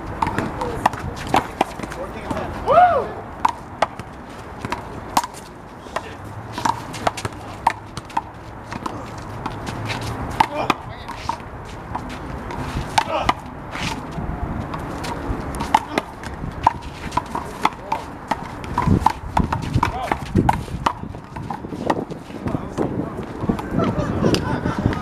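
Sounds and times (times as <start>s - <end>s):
handball hitting hands and wall: 0.0s - 2.5s, 3.4s - 25.0s.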